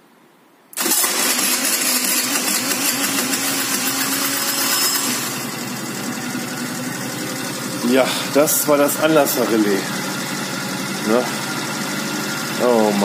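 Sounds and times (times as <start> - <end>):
scooter engine starting and idling: 0.8 - 13.0.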